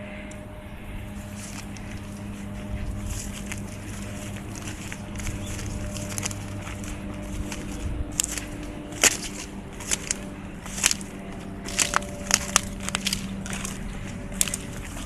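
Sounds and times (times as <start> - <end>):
steady low hum: 0.0 - 15.0
footsteps crunching over debris: 1.0 - 15.0
reeds snapping: 1.2 - 15.0.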